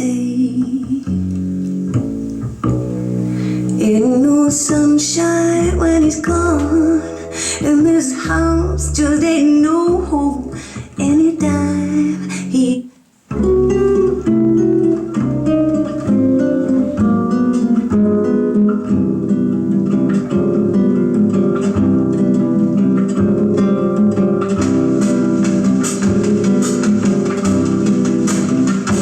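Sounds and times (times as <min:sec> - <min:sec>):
acoustic guitar bossa nova: 0:00.0 - 0:29.0.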